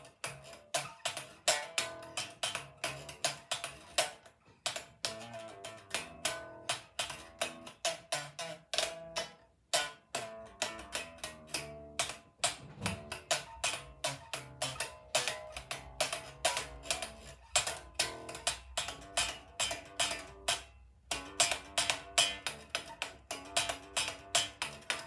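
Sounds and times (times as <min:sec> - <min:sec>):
slap bass on electric bass: 0:00.0 - 0:25.0.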